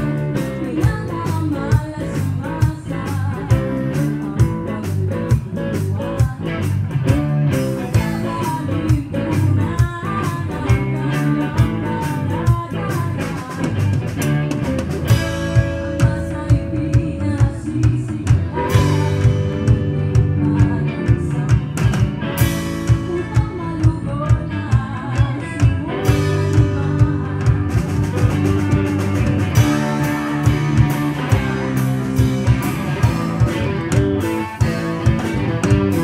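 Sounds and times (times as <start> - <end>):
live rock band playing: 0.0 - 36.0
steady drum beat: 0.0 - 36.0.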